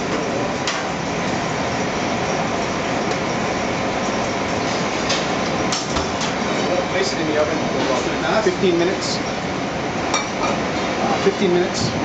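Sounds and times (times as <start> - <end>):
ventilation hood rushing: 0.0 - 12.0.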